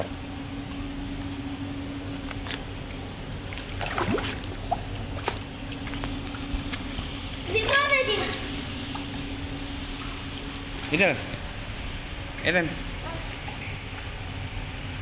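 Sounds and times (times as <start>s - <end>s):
water splashing: 0.8s - 14.4s.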